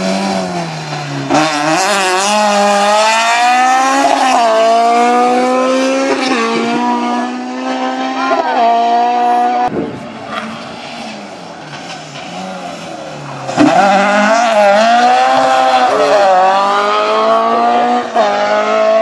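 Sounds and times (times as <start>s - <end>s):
rally car engine passing: 0.0s - 19.0s.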